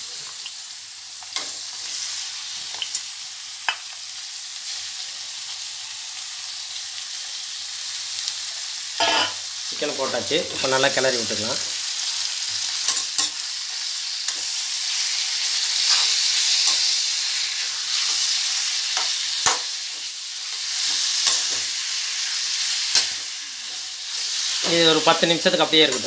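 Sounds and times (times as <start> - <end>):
chicken and onions sizzling in oil: 0.0 - 26.0.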